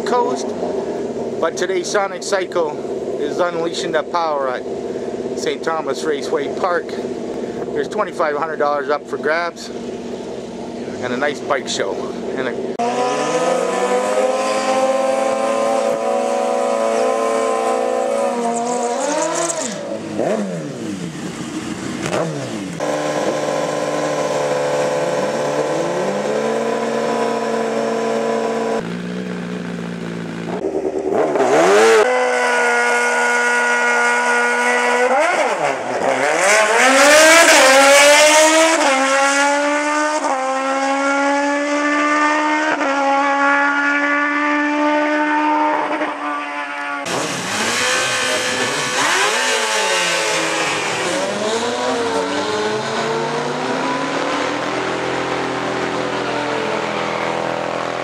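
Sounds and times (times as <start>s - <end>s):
motorcycle engines revving high: 0.0s - 58.0s.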